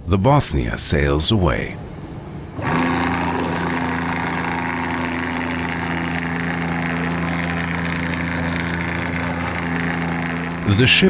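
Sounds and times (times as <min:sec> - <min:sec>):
motor boat engine running: 0:01.8 - 0:11.0.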